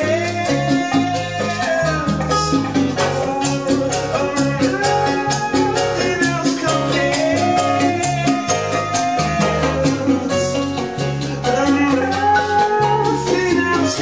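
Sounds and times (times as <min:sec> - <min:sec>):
latin dance music: 0:00.0 - 0:14.0.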